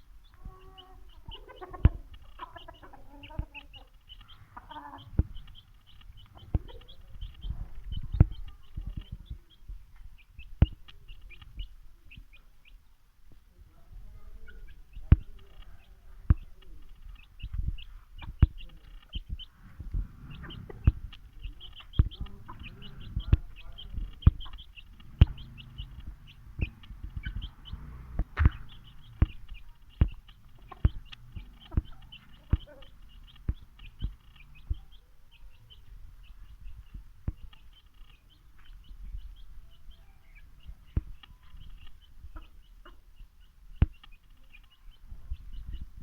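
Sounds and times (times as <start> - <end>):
chickens clucking and chirping: 0.0 - 46.0.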